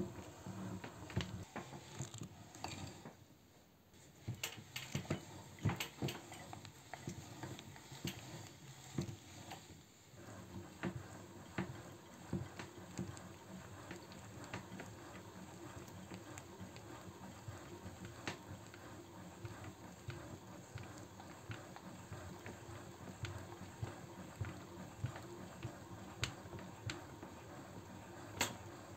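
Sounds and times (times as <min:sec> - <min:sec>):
meat grinder crushing chocolate: 0:05.0 - 0:28.9.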